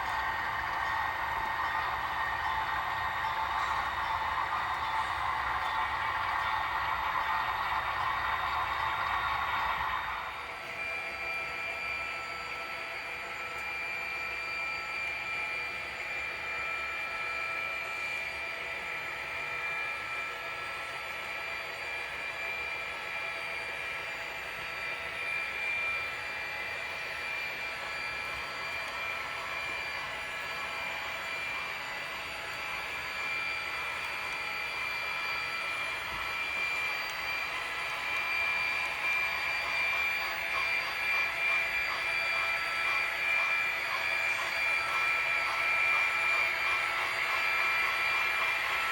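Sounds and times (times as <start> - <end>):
model locomotives electric whine: 0.0 - 48.9.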